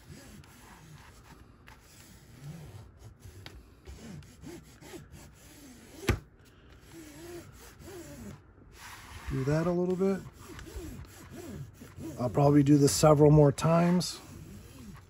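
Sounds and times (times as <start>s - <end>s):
rubbing and handling canvas: 0.0s - 15.0s.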